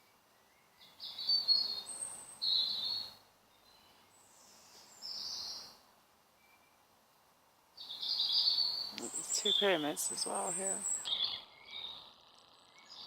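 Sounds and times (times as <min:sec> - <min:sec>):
songbird singing: 0:00.0 - 0:06.9, 0:07.8 - 0:13.0.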